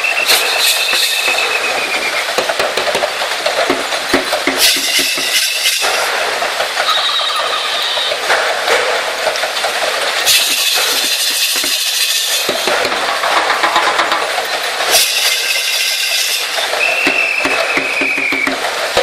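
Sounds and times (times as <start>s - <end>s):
gearing clattering: 0.2s - 19.0s.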